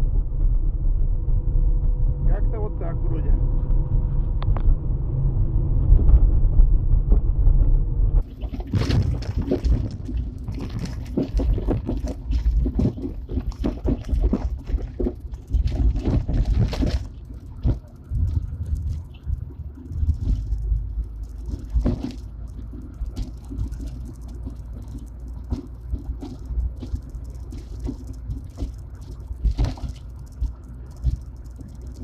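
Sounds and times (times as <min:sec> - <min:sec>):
low road rumble: 0:00.0 - 0:32.0.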